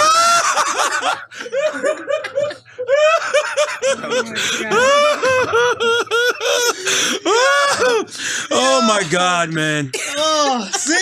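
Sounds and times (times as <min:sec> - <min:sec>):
men laughing: 0:00.0 - 0:09.3.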